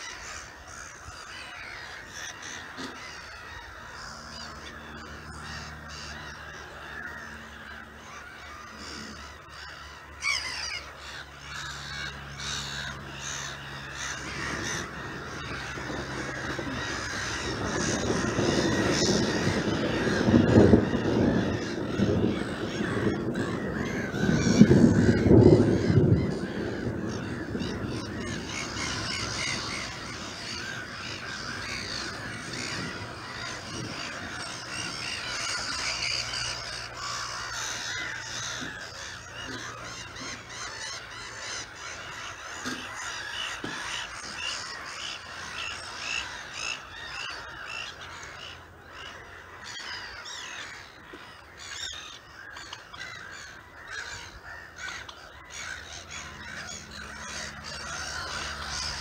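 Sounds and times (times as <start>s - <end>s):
wetland birds calling: 0.0s - 59.0s.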